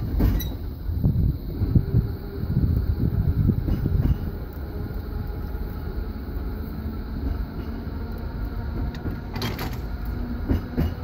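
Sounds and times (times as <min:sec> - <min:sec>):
tram wheels rumbling on rail: 0:00.0 - 0:11.0.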